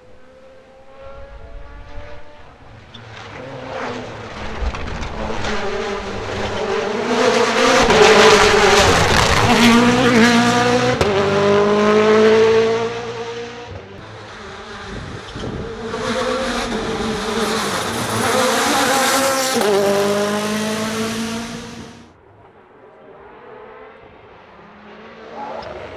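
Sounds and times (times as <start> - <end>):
rally car engine accelerating: 0.2 - 22.1.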